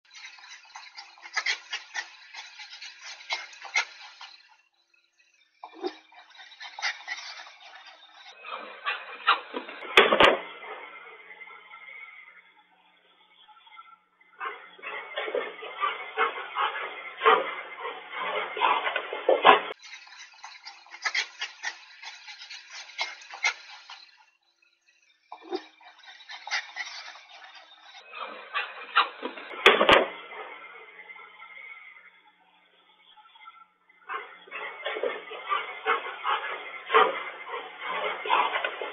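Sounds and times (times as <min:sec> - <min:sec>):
dogs play-fighting: 0:00.0 - 0:04.5, 0:05.6 - 0:11.6, 0:14.4 - 0:24.3, 0:25.4 - 0:31.4, 0:34.0 - 0:38.9.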